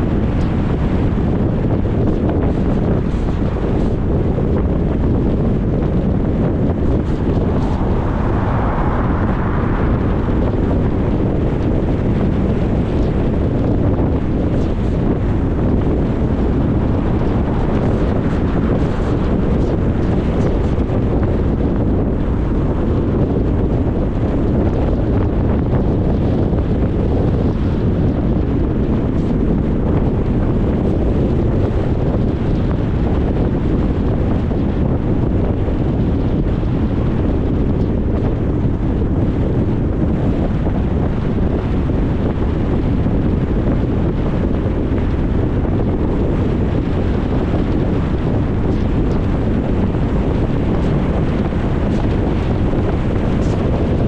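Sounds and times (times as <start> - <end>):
car road noise: 0.0 - 54.0
wind buffeting microphone: 0.0 - 54.0.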